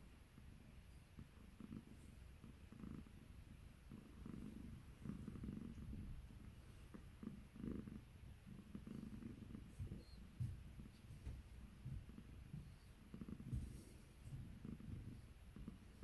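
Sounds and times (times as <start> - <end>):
cat purring softly: 0.0 - 16.0.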